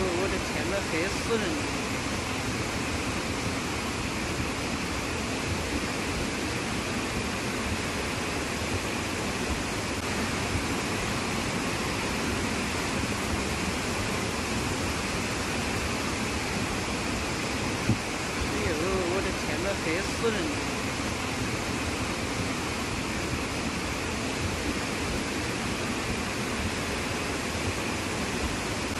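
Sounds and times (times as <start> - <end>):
heavy rain hissing: 0.0 - 28.9.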